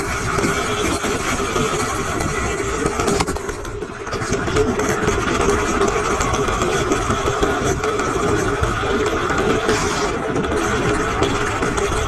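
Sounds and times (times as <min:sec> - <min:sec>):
toy car rolling on plastic track: 0:00.0 - 0:12.0.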